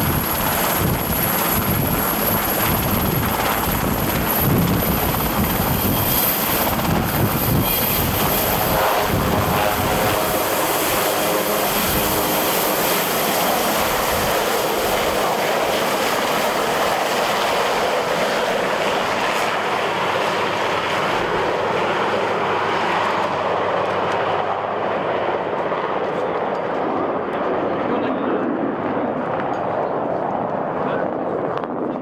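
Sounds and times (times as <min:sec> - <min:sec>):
helicopter turbines and rotor: 0:00.0 - 0:32.0.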